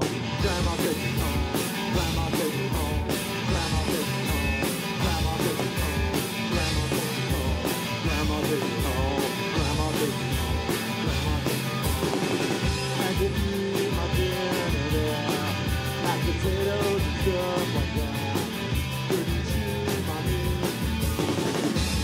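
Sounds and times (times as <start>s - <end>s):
drum kit beat: 0.0s - 22.0s
electric guitar: 0.0s - 22.0s.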